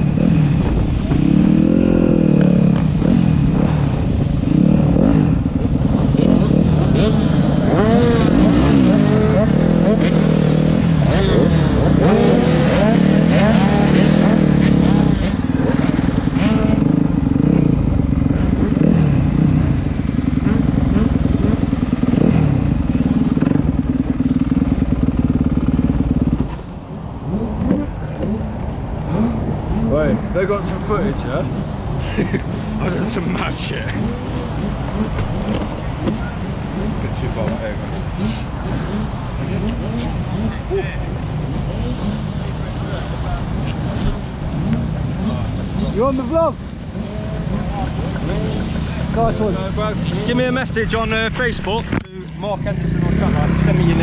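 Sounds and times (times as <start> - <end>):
motocross bike engine revving: 0.0 - 26.6, 27.2 - 54.0.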